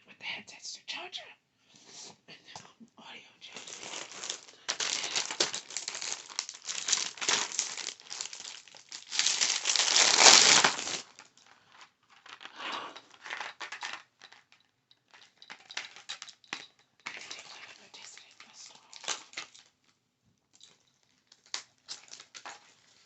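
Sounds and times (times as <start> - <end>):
crinkly material crumpling: 3.5 - 23.0.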